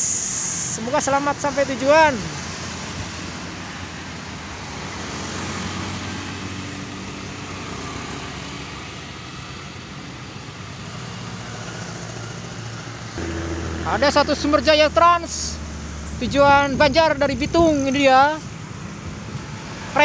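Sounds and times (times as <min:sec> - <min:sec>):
cars and motorcycles passing: 0:00.0 - 0:20.0.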